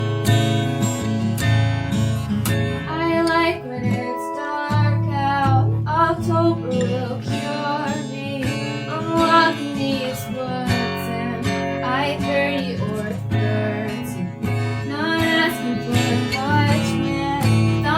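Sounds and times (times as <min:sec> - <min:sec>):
acoustic guitar strumming: 0:00.0 - 0:17.9
woman singing: 0:02.9 - 0:17.9.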